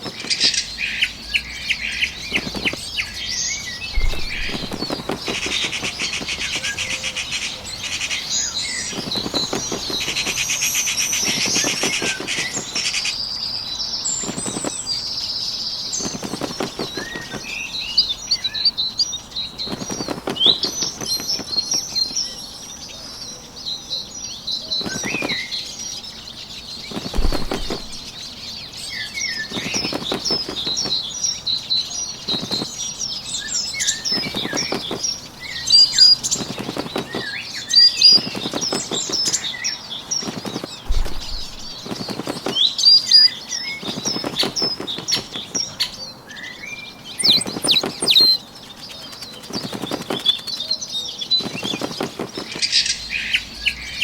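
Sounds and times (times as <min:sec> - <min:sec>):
bird wingbeats flapping: 0:00.0 - 0:13.2, 0:14.1 - 0:22.4, 0:24.7 - 0:46.0, 0:47.2 - 0:53.4
high-pitched birdsong chirps: 0:00.0 - 0:54.0.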